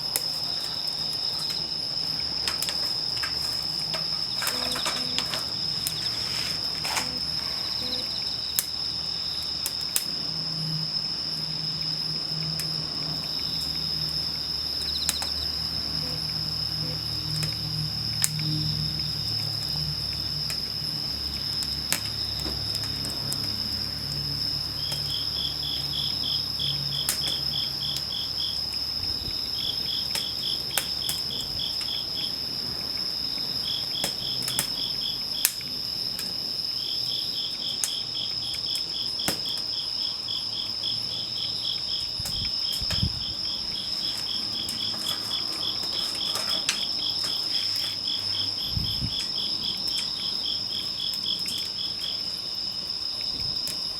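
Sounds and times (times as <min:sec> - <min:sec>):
campfire popping and crackling: 0:00.0 - 0:16.0, 0:19.0 - 0:28.3, 0:29.1 - 0:53.9
crickets trilling: 0:00.0 - 0:53.9
insect chirping: 0:00.0 - 0:53.9.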